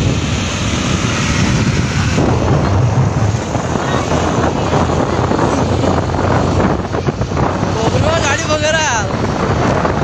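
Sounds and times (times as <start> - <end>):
vehicle and road noise: 0.0 - 10.0
wind buffeting microphone: 0.0 - 10.0.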